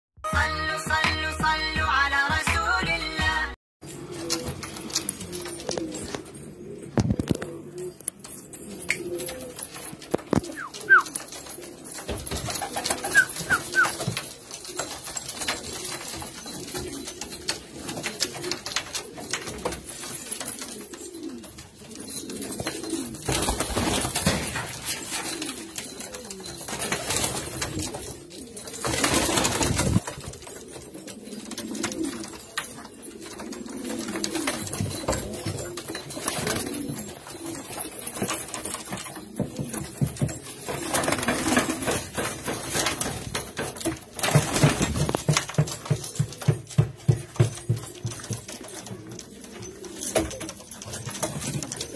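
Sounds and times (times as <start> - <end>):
pigeons cooing: 3.8 - 51.9.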